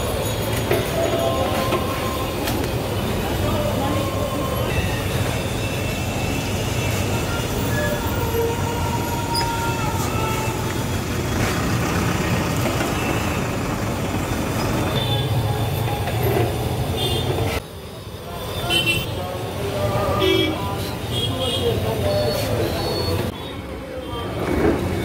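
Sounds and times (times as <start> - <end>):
roadside traffic rumble: 0.0 - 25.0.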